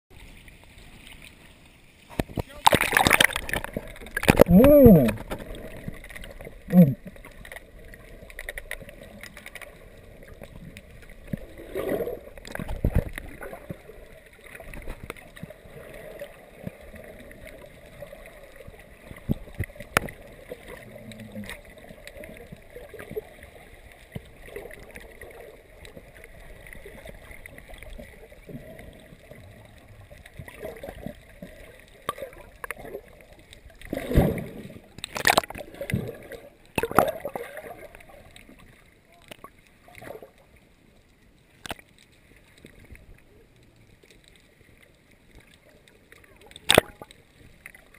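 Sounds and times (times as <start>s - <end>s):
muffled underwater water wash: 0.1s - 47.9s.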